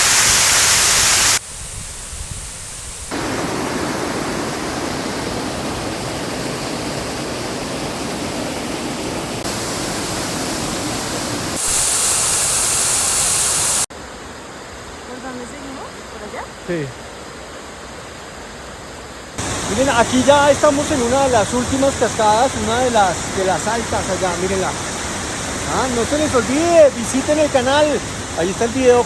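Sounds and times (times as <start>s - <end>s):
waterfall rushing: 0.0s - 13.9s, 19.4s - 29.0s.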